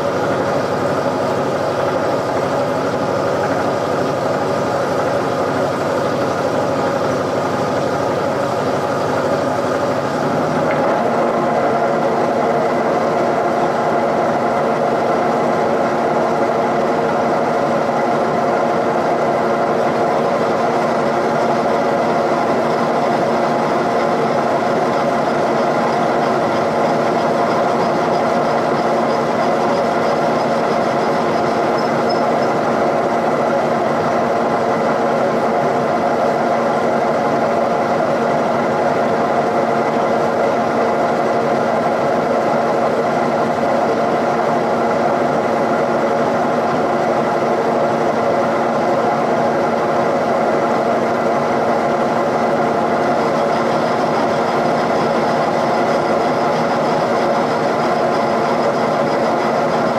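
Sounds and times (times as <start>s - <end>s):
milling machine humming: 0.0s - 59.9s.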